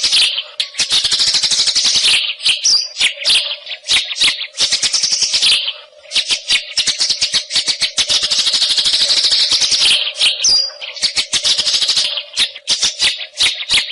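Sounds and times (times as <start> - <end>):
bird high chattering song: 0.0 - 13.9
faint steady hum: 0.0 - 13.9.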